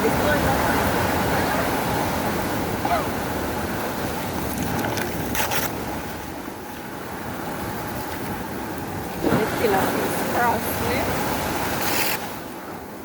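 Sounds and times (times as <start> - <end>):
sea surf: 0.0 - 13.0
wind buffeting microphone: 0.0 - 13.0.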